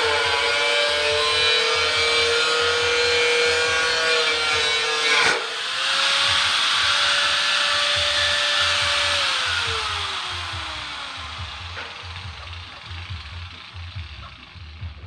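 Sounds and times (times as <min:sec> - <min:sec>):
angle grinder cutting metal: 0:00.0 - 0:15.0.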